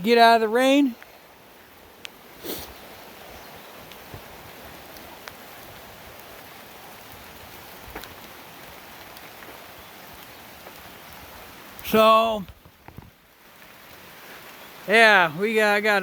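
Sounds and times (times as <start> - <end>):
rain falling through trees: 0.0 - 16.0.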